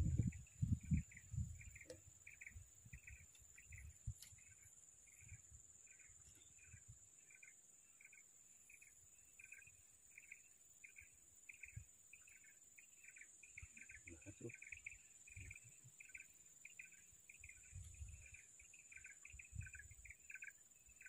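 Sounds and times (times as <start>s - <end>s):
insect chorus buzzing: 0.0s - 21.0s
short insect chirps: 0.0s - 21.0s.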